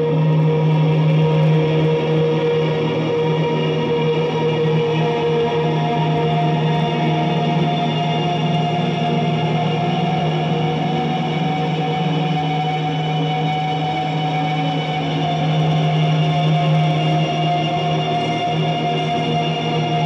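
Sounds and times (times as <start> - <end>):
electric guitar ambient drone: 0.0 - 20.0.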